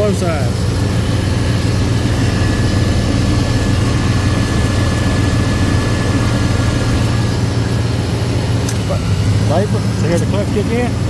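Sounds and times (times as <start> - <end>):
car engine idling: 0.0 - 11.0
thin high whine: 0.0 - 11.0.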